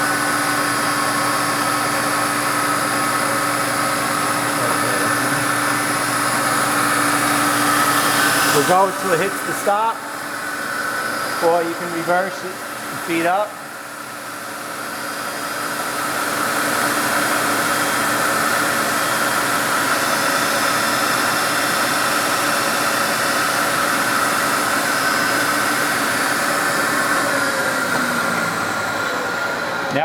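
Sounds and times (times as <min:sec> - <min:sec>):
milling machine feed motor whine: 0:00.0 - 0:30.0.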